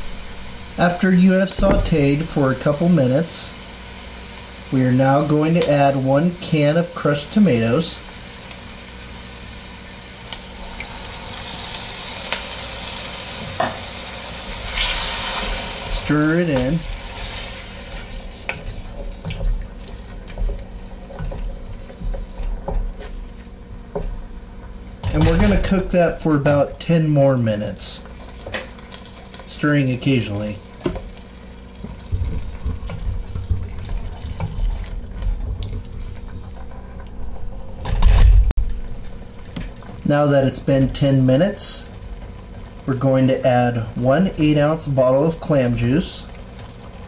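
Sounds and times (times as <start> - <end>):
soft sizzle: 0.0 - 47.0.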